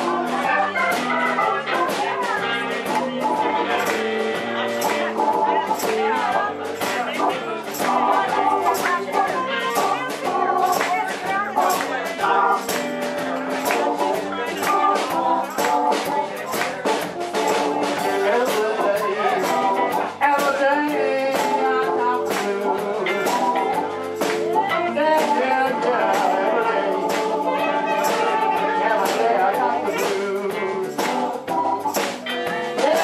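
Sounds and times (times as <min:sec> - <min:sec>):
blues harmonica lead: 0:00.0 - 0:33.0
electric blues band playing: 0:00.0 - 0:33.0.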